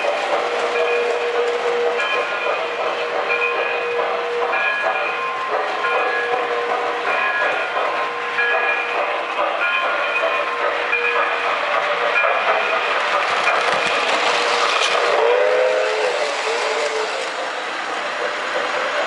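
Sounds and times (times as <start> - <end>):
model train wheels rolling on rails: 0.0 - 19.0.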